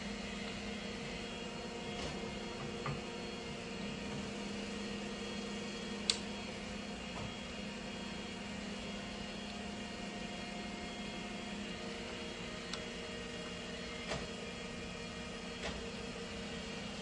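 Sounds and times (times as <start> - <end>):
machine hum with held tones: 0.0 - 17.0.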